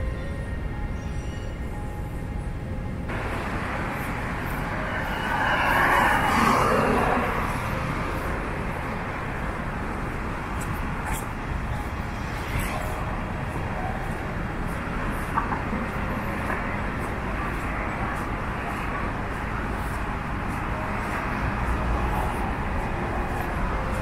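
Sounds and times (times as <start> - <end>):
traffic noise: 0.0 - 24.0
car passing: 3.1 - 24.0.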